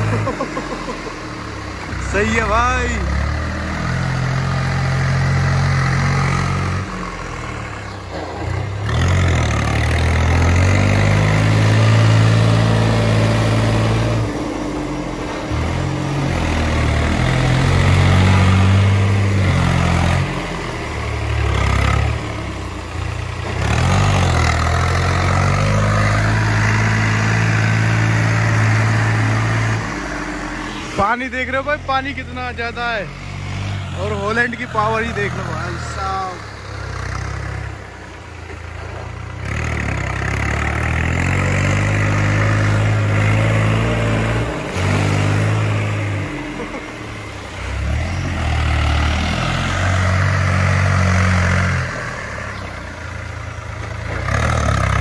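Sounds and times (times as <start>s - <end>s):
tractor diesel engine working hard: 0.0s - 55.0s.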